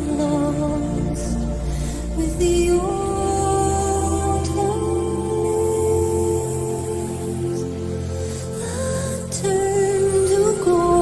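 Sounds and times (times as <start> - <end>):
low drone: 0.0 - 11.0
slow celtic-style music: 0.0 - 11.0.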